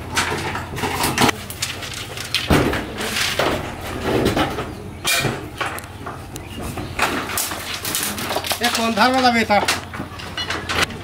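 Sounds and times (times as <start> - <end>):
bamboo poles and tin clattering: 0.0 - 11.0.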